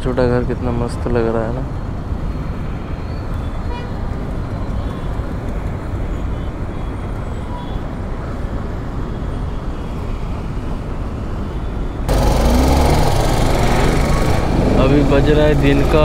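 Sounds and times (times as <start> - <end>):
wind and motorcycle road noise: 0.0 - 16.0.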